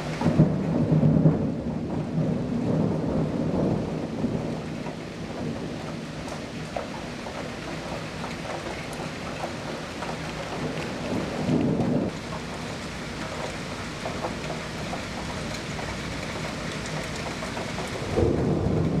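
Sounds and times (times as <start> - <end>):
rain falling steadily: 0.0 - 19.0
thunder rumbling: 0.0 - 19.0.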